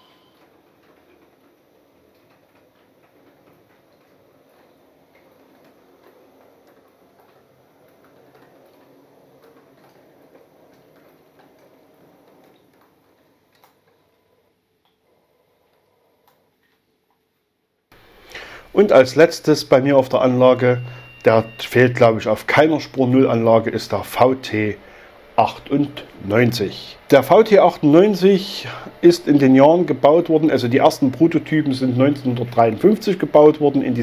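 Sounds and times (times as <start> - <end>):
wheels ticking on rails: 0.0 - 13.2, 18.0 - 34.0.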